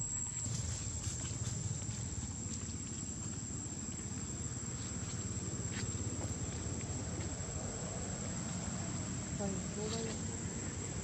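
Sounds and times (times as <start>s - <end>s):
insects droning: 0.0s - 11.0s
low steady rumble: 0.0s - 11.0s.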